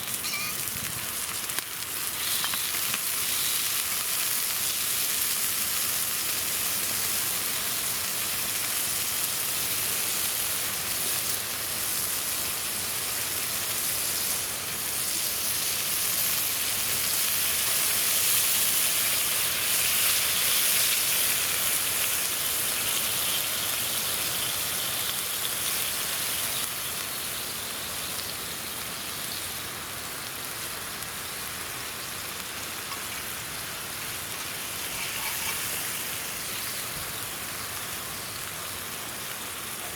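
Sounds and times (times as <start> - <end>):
beef sizzling over a campfire: 0.0 - 39.9.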